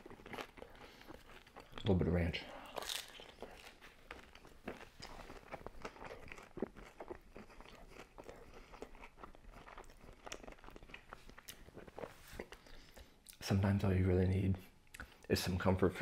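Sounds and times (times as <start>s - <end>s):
person chewing crunchy pizza: 0.0s - 13.4s.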